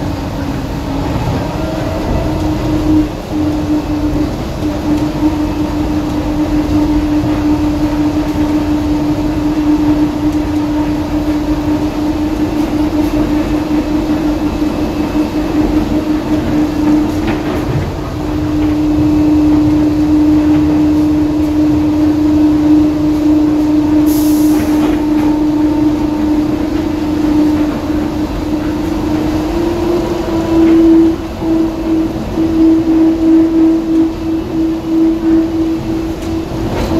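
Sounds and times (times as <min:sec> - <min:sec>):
people-mover train running: 0:00.0 - 0:36.9.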